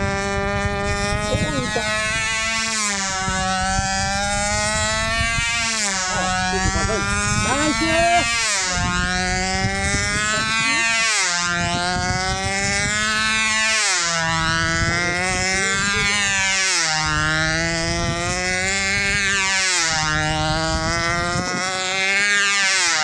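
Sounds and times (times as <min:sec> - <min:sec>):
model plane engine running: 0:00.0 - 0:23.0.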